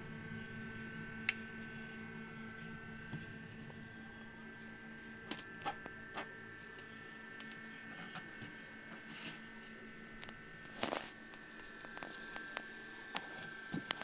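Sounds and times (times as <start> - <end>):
small electric fans humming: 0.0 - 14.0.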